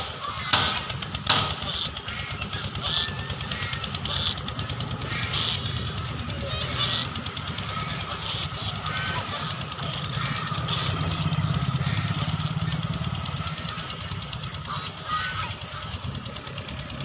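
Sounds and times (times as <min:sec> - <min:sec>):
birds calling: 0:00.0 - 0:17.0
motor running with fast pulse: 0:00.0 - 0:17.0.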